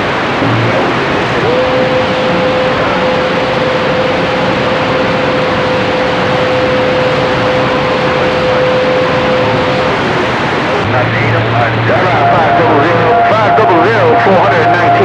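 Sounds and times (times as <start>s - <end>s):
radio static hiss: 0.0s - 15.0s
steady whistle tone: 0.4s - 15.0s.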